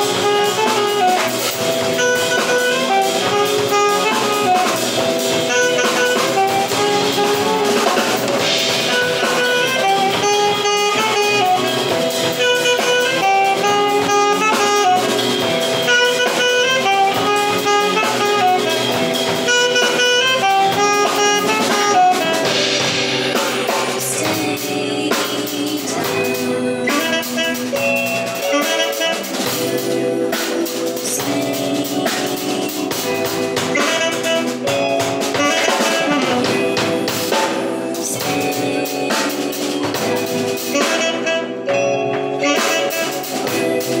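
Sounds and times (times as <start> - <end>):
live jazz band playing: 0.0 - 44.0
saxophone melody: 0.0 - 44.0.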